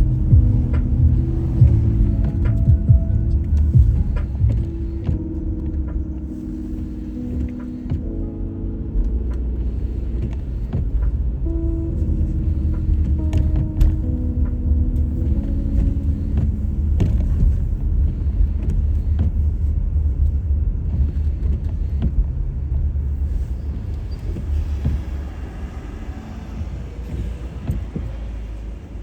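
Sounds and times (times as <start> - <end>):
car interior road rumble: 0.0 - 29.0.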